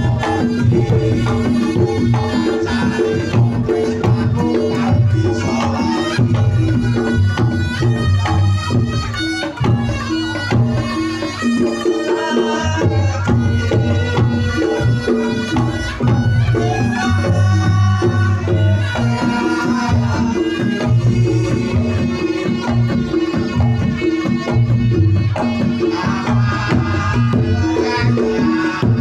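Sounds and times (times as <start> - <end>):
hand drums: 0.0 - 29.0
shawm melody: 0.0 - 29.0.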